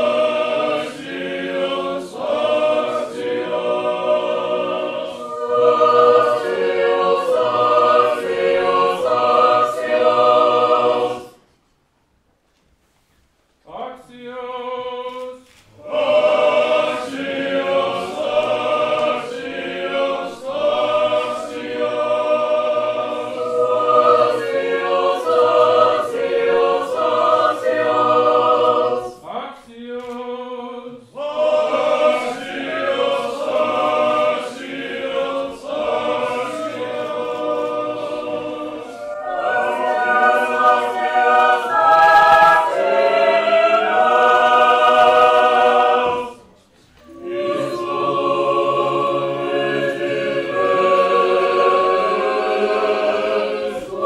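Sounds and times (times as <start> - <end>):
choir singing a cappella chant: 0.0 - 11.5, 13.7 - 54.0.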